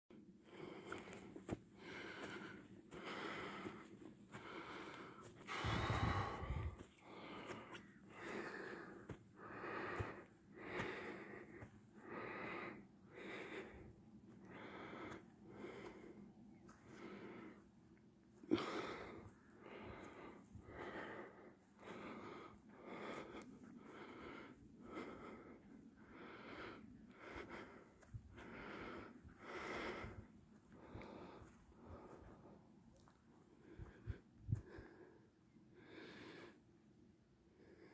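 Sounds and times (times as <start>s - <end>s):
person breathing heavily: 0.1s - 37.9s.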